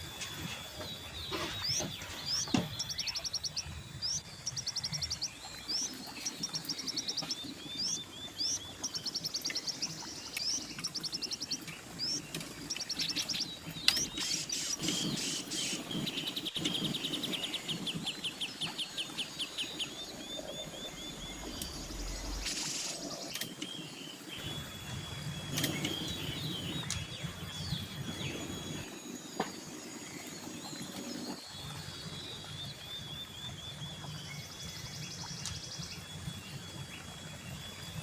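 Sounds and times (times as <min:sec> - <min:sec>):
birds chirping and trilling: 0:00.0 - 0:38.0.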